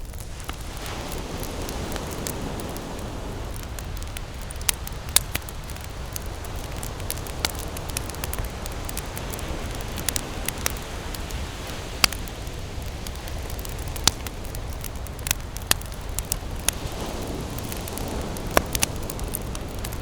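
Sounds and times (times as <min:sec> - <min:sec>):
campfire pops and snaps: 0:00.0 - 0:20.0
steady low rush of fire: 0:00.0 - 0:20.0.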